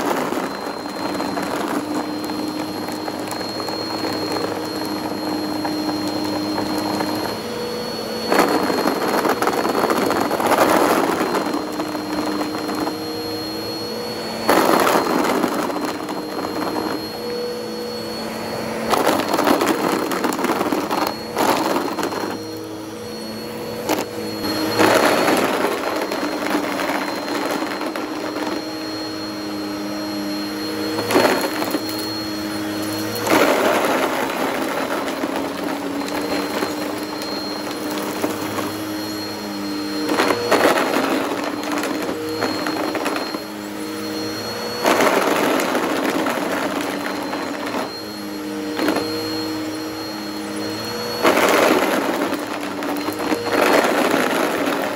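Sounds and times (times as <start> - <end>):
objects crunching and rattling in vacuum: 0.0 - 54.9
vacuum cleaner motor whine: 0.0 - 54.9.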